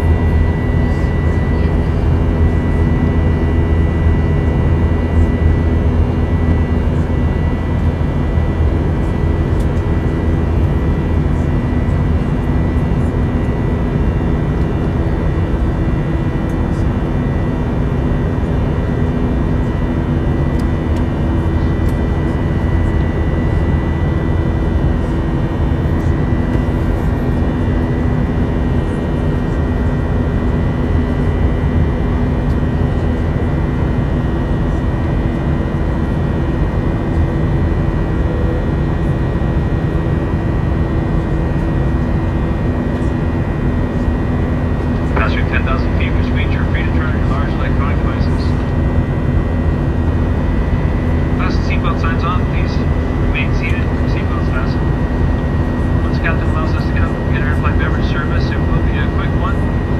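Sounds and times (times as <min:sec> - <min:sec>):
faint steady whine: 0:00.0 - 0:59.9
jet airliner cabin drone: 0:00.0 - 0:59.9.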